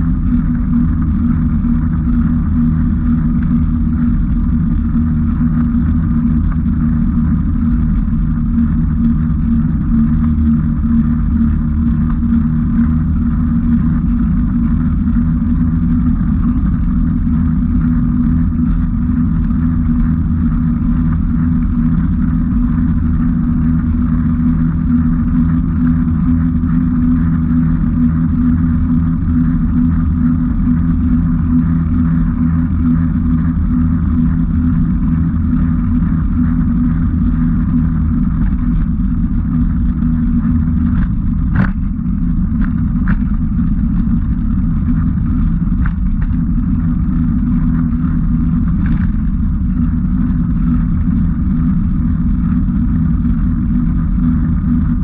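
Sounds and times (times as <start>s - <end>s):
motor droning: 0.0s - 55.0s.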